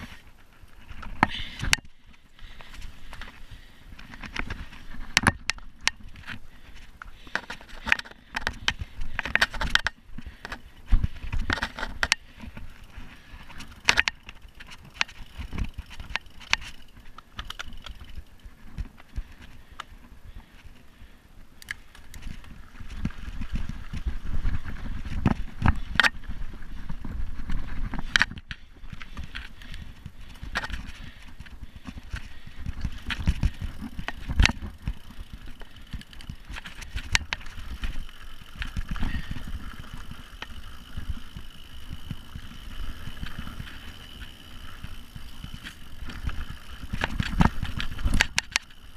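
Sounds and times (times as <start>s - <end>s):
bike rattling and clicking: 0.0s - 48.9s.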